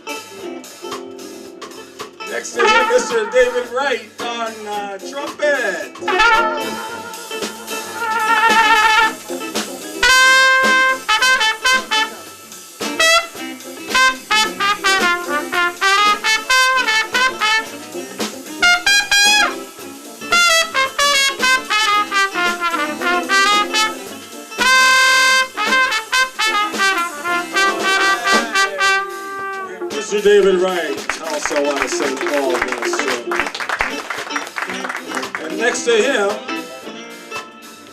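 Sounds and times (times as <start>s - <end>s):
live jazz band: 0.0s - 37.9s
trumpet solo: 2.3s - 4.1s, 6.0s - 35.5s.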